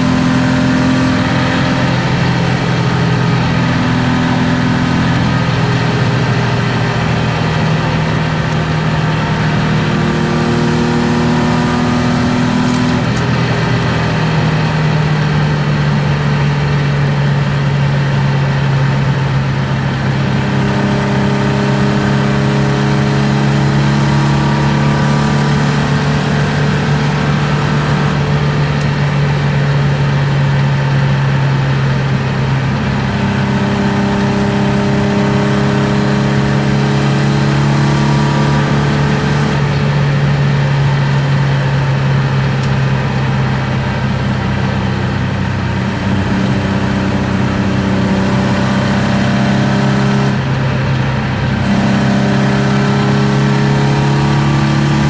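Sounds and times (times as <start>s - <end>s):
car engine pulling steadily: 0.0s - 55.0s
road and wind noise: 0.0s - 55.0s.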